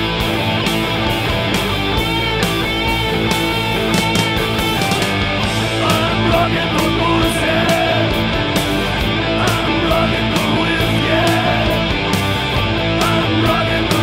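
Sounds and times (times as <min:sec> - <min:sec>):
bending melodic guitar line: 0:00.0 - 0:14.0
heavy rock band playing: 0:00.0 - 0:14.0.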